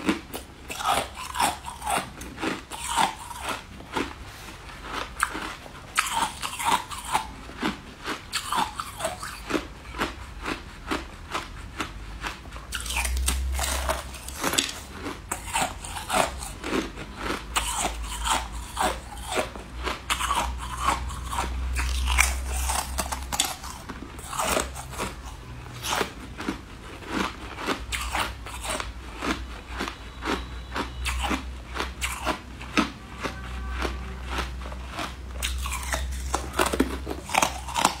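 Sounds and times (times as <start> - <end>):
crunchy candy chewing: 0.0 - 38.0.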